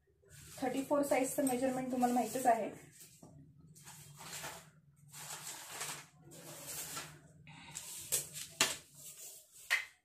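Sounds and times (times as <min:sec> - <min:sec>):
paper rustling on a table: 0:01.4 - 0:10.0.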